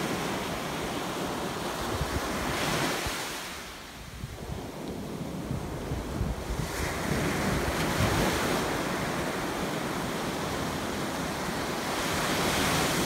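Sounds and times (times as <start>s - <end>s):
sea waves washing on beach: 0.0s - 13.0s
wind rumbling on microphone: 0.0s - 13.0s.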